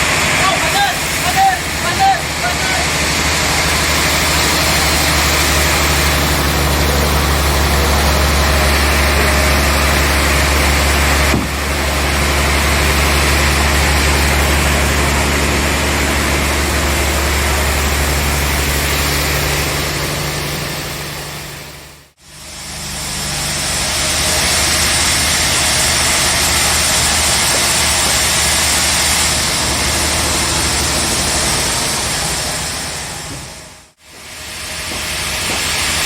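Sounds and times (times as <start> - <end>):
sawmill machinery droning: 0.0 - 36.0.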